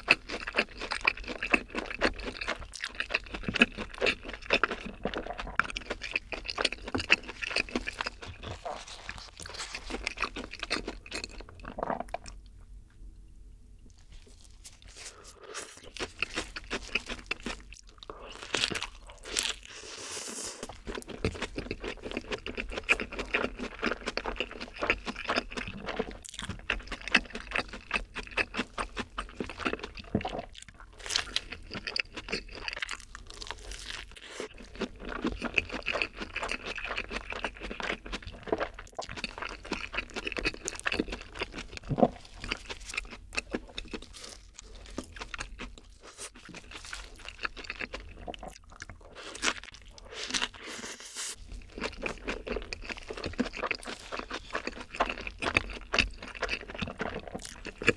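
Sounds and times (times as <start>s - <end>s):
person chewing a burger: 0.0s - 12.6s, 13.8s - 57.9s.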